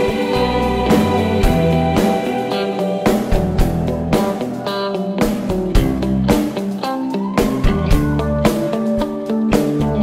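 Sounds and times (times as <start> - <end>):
guitar chords: 0.0 - 10.0.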